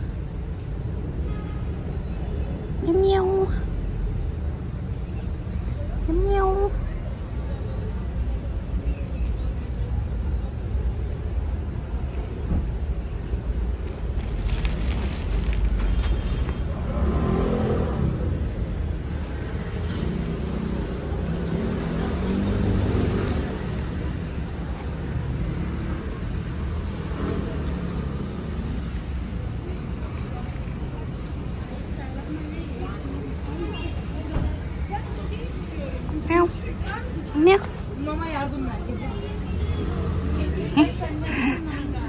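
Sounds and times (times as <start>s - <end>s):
road traffic rumble: 0.0s - 42.0s
vehicles passing: 0.0s - 42.0s.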